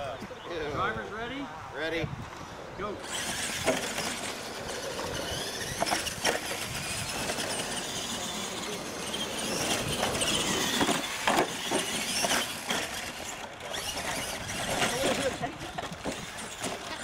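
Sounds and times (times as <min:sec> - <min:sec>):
toy truck motors whining: 0:03.0 - 0:17.0.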